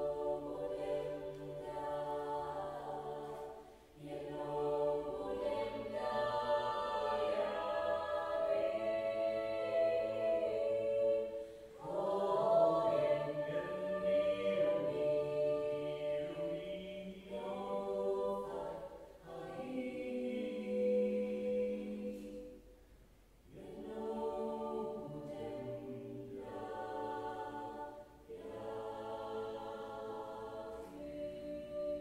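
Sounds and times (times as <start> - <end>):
female vocal ensemble singing: 0.0 - 32.0.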